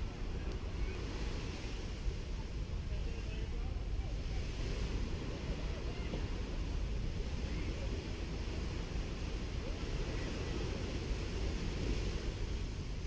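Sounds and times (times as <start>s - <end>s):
waves washing onto beach: 0.0s - 13.0s
wind rumble on microphone: 0.0s - 13.0s.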